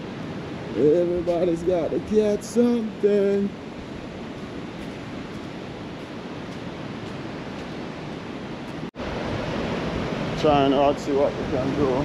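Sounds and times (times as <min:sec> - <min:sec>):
ocean surf: 0:00.0 - 0:12.0
sea wind: 0:00.0 - 0:12.0.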